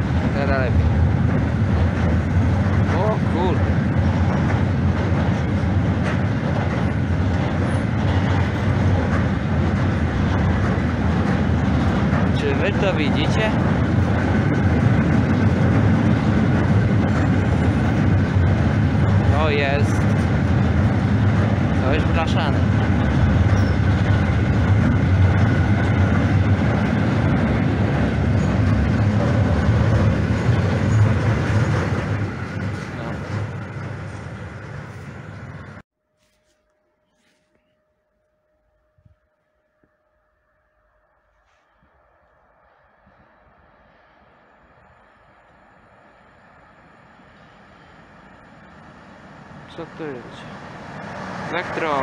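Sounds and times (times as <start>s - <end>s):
train wheels rumbling on rail: 0.0s - 35.8s, 42.7s - 52.0s.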